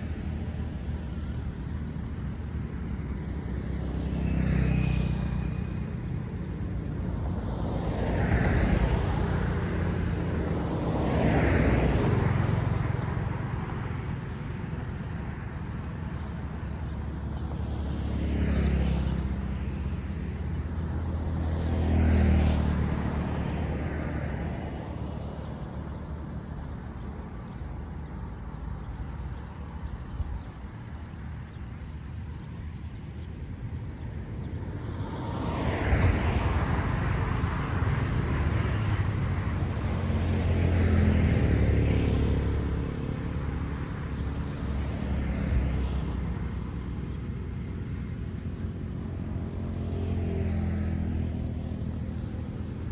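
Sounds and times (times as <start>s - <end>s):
steady low traffic rumble: 0.0s - 52.9s
vehicles passing: 0.0s - 52.9s.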